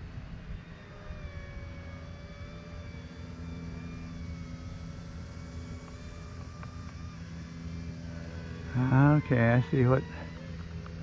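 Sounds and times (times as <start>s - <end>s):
low steady hum: 0.0s - 11.0s
rc plane electric motor whine: 0.0s - 11.0s.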